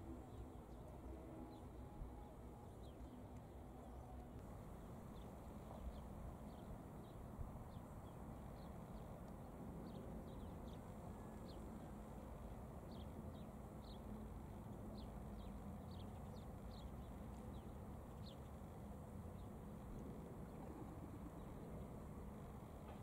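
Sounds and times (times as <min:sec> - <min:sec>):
small birds chirping: 0:02.6 - 0:23.0.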